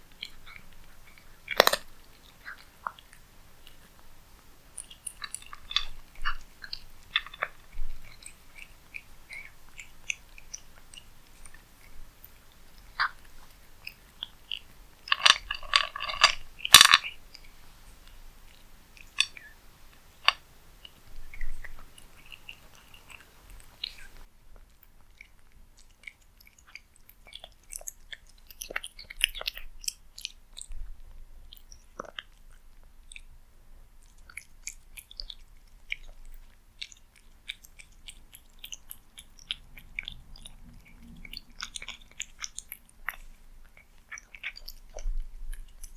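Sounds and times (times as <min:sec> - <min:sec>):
cat chewing and crunching: 0:00.0 - 0:45.9.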